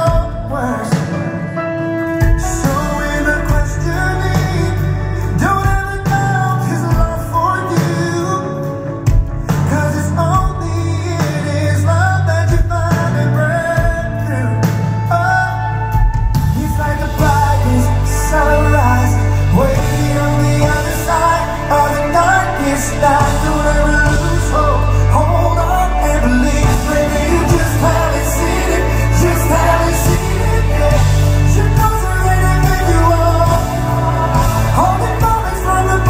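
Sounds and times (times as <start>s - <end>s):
live pop-rock band playing: 0.0s - 36.0s
man singing lead vocals: 0.0s - 36.0s.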